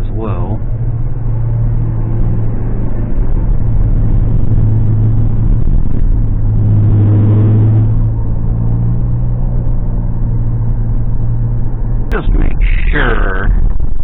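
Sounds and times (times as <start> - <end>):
car engine idling: 0.0 - 6.6, 7.9 - 14.0.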